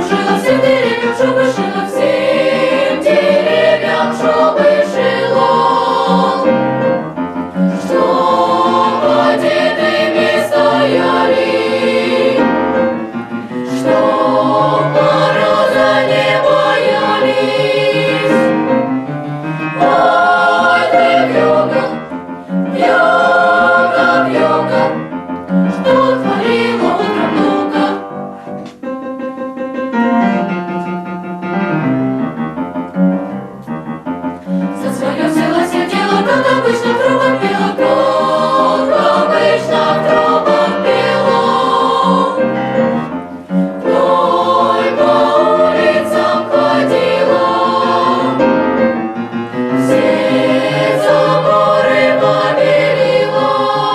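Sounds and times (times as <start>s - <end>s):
children's choir singing: 0.0s - 28.2s, 34.6s - 53.9s.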